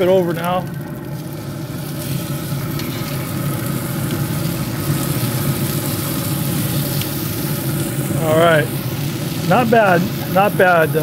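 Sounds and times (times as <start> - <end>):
steady low hum: 0.0 - 11.0
steaks sizzling on griddle: 0.0 - 11.0.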